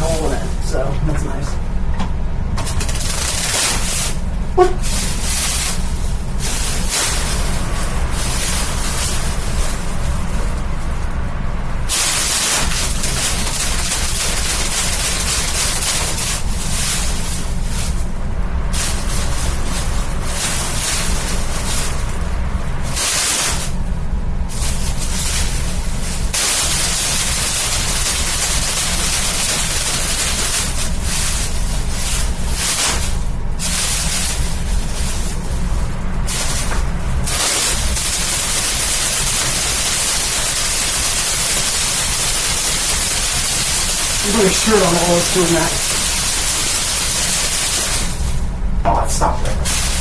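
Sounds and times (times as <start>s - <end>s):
fan motor hum: 0.0s - 50.0s
fan rushing hiss: 0.0s - 50.0s.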